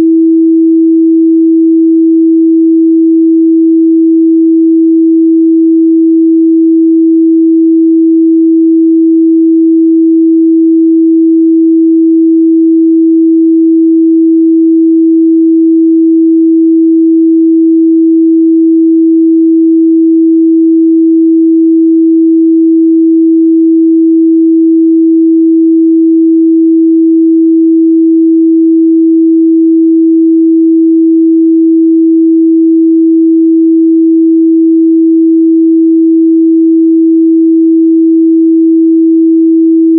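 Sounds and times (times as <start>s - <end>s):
sine test tone: 0.0s - 39.9s.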